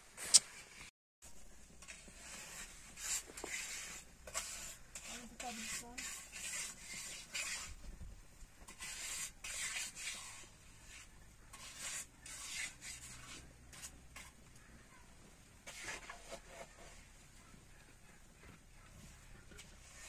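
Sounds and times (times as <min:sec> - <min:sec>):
mortar scraping on wall: 0:01.7 - 0:14.8, 0:15.6 - 0:17.2, 0:18.0 - 0:20.0.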